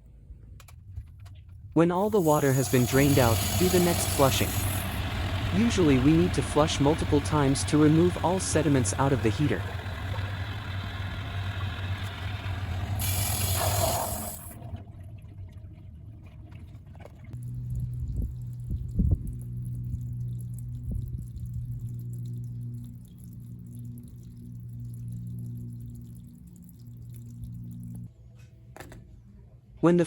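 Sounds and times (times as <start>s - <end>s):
steady low hum: 2.0s - 16.6s, 17.3s - 28.1s
water rushing through drain: 2.0s - 28.1s.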